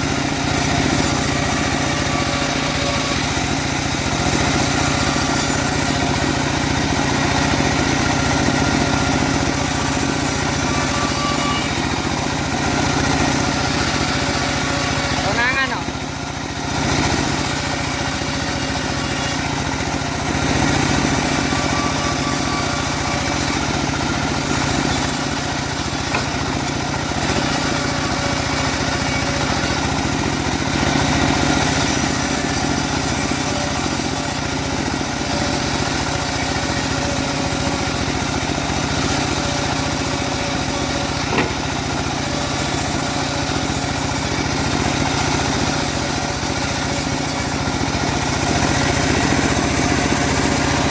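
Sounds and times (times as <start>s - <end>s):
bandsaw sawmill running: 0.0s - 50.9s.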